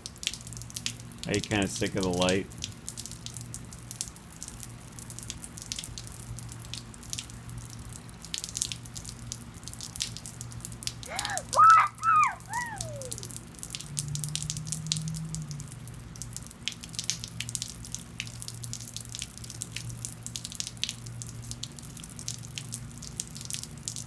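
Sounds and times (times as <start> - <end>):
rainwater dripping and splashing: 0.0 - 24.0.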